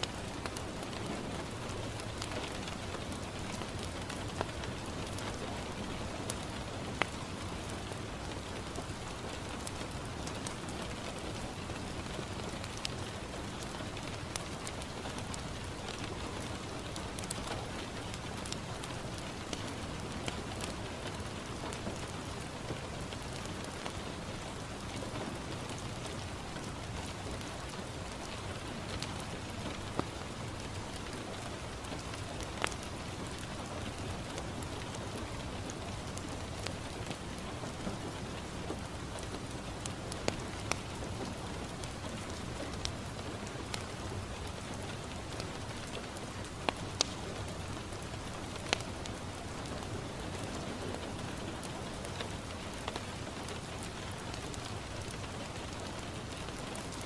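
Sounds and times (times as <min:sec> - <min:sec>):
rain falling on a window: 0:00.0 - 0:57.0
wood fire crackling: 0:00.0 - 0:57.0.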